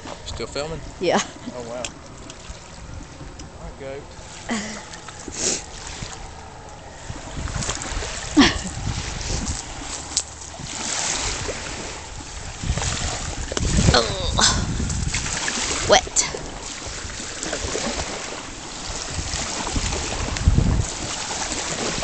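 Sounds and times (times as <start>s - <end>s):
lapping water: 0.0s - 22.0s
wind rumbling on microphone: 0.0s - 22.0s.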